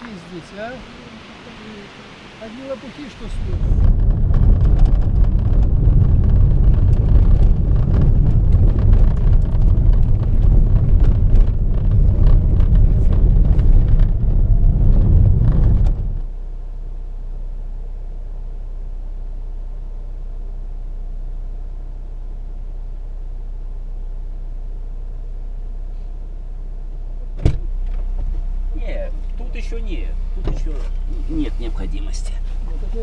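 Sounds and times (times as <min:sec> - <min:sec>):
tyre and road rumble: 0:00.0 - 0:18.4, 0:23.8 - 0:33.0
steady low hum: 0:00.3 - 0:33.0.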